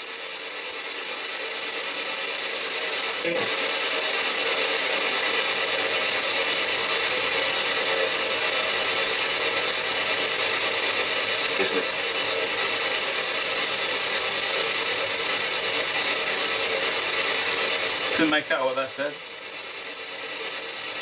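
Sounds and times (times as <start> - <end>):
radio static hiss: 0.1 - 21.0.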